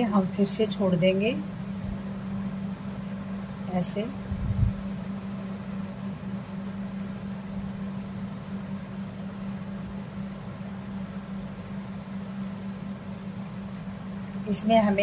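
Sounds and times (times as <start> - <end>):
fan hum: 0.0 - 15.0.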